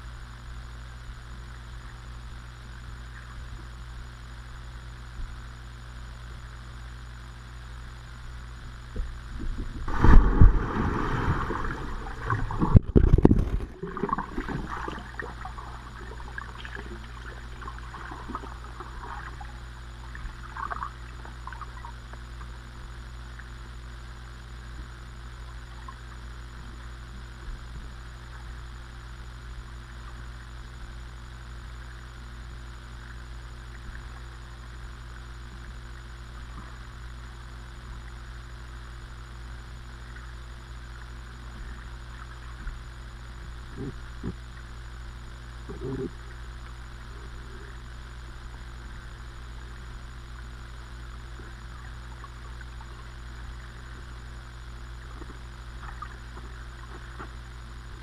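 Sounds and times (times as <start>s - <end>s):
muffled underwater hum: 0.0s - 58.0s.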